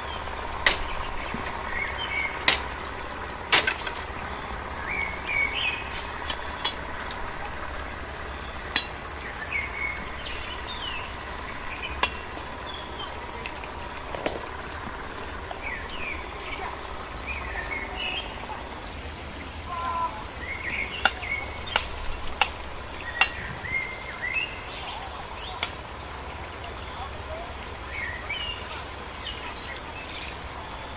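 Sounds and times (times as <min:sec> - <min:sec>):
insect drone: 0:00.0 - 0:30.9.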